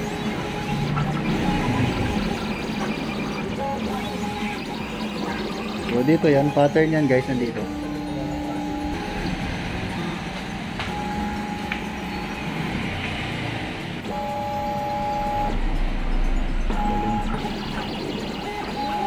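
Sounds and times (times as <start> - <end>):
cutting plotter motors whining: 0.0 - 19.0
machine and room noise: 0.0 - 19.0.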